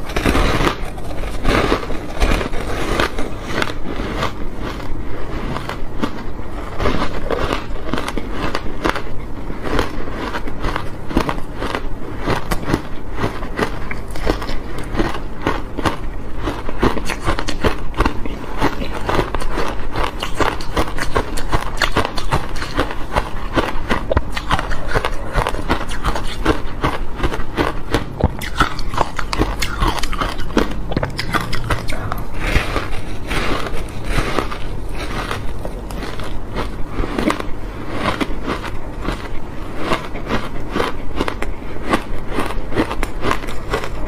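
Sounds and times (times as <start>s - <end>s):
crunching and chewing ice: 0.0s - 44.0s.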